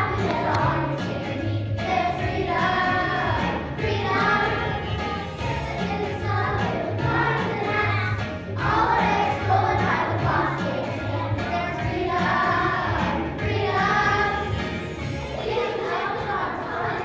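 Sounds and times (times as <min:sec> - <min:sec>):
musical backing with bass beat: 0:00.0 - 0:15.6
children singing together: 0:00.0 - 0:17.0.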